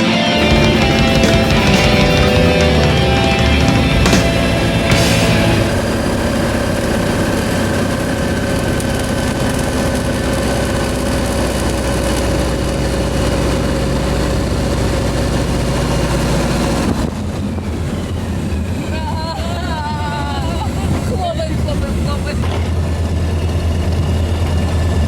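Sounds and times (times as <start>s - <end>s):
light aircraft engine drone: 0.0s - 25.0s.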